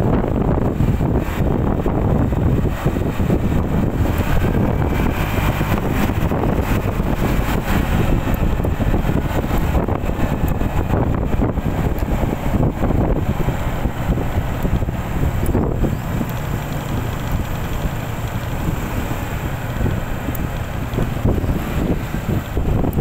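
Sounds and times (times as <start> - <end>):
scooter engine: 0.0 - 23.0
wind buffeting microphone: 0.0 - 23.0.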